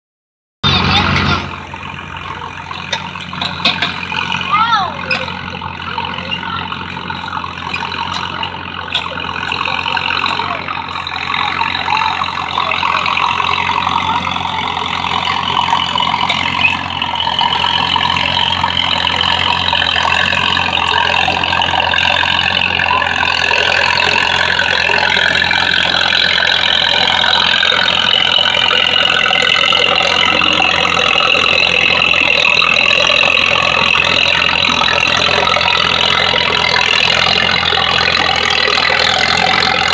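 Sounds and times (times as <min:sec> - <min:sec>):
tractor engine running under load: 0:00.6 - 0:39.9.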